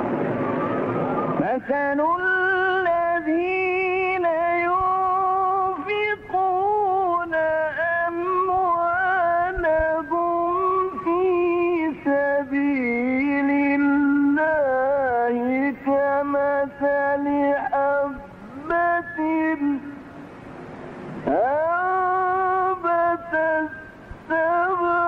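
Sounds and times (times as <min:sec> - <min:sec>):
man chanting melodically: 0:01.4 - 0:20.1, 0:21.2 - 0:25.0.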